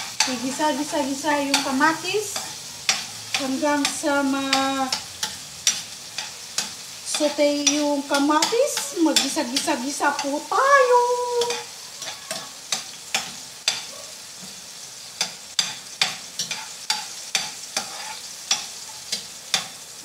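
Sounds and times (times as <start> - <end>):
spatula scraping pan: 0.0 - 20.0
tomatoes sizzling in oil: 0.0 - 20.0.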